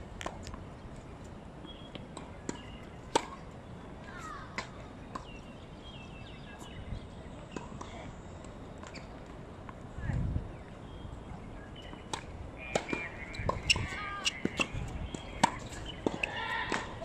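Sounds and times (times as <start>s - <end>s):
small birds chirping: 0.6s - 8.0s, 10.4s - 17.0s.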